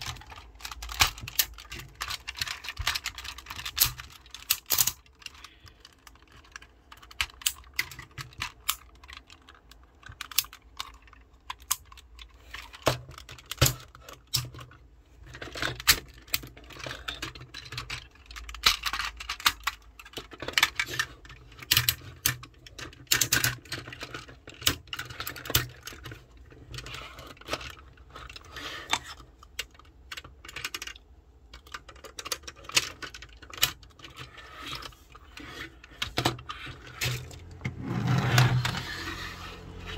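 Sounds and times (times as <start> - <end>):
plastic toy parts clicking and snapping: 0.0 - 39.9.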